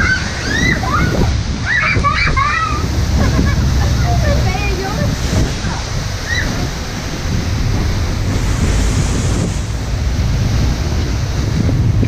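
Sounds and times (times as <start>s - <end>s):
water rushing: 0.0s - 12.0s
wind buffeting microphone: 0.0s - 12.0s.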